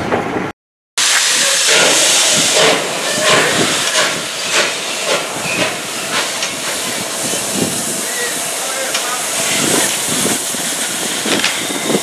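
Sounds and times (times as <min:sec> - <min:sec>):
steam hissing: 0:01.0 - 0:12.0
steam locomotive exhaust chuffs: 0:01.0 - 0:12.0.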